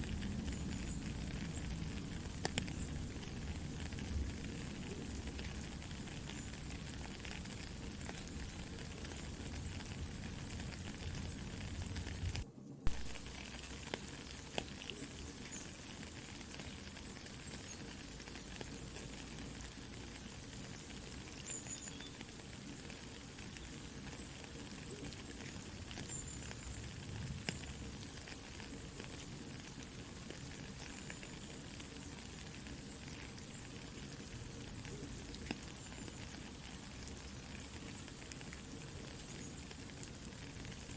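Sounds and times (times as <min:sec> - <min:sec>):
campfire crackling and popping: 0:00.0 - 0:40.9
soft rain falling: 0:00.0 - 0:40.9.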